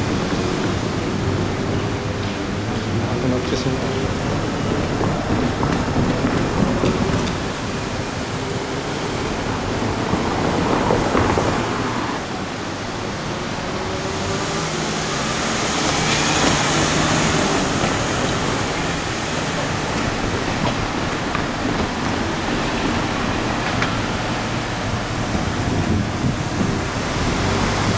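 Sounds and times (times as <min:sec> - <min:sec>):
outdoor traffic noise: 0:00.0 - 0:27.9
vehicle passing: 0:00.0 - 0:27.9.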